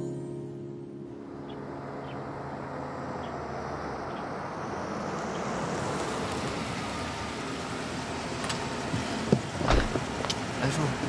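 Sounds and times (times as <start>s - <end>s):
coach engine running: 0.4s - 11.0s.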